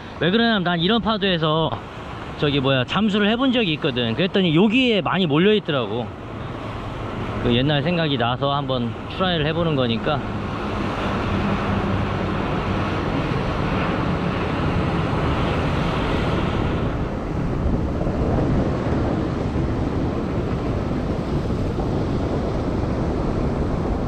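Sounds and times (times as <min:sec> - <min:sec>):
surf washing over rocks: 0:00.0 - 0:24.0
wind buffeting microphone: 0:00.0 - 0:24.0.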